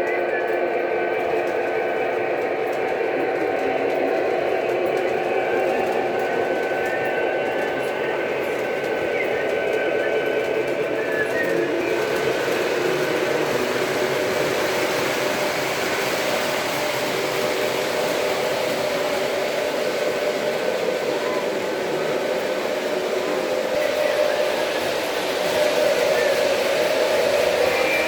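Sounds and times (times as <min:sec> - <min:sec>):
model train whirring on track: 0:00.0 - 0:28.0.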